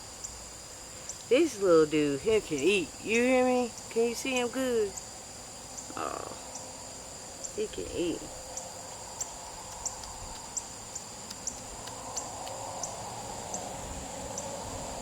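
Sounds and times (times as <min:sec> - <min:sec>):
cricket chirps: 0:00.0 - 0:15.0
insect drone: 0:00.0 - 0:15.0.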